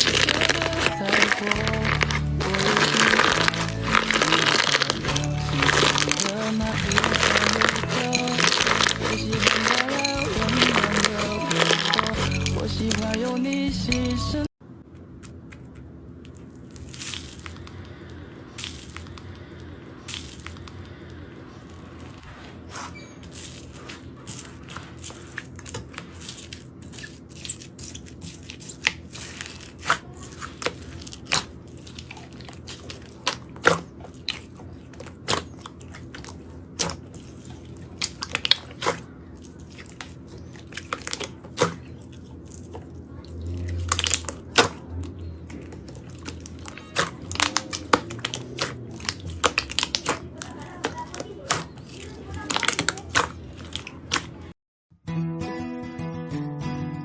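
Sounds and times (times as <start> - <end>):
slime crackling and popping: 0.0 - 13.2, 15.1 - 54.5.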